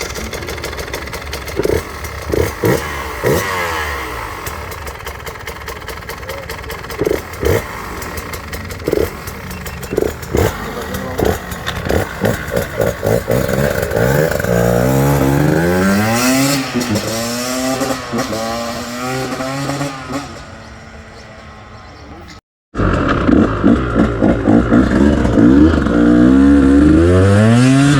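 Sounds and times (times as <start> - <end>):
two-stroke engine revving: 0.0 - 27.9.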